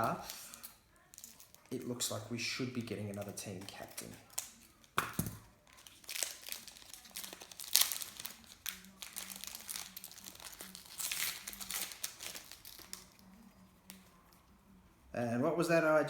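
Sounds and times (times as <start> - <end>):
plastic wrapper crinkling: 0.0 - 14.4.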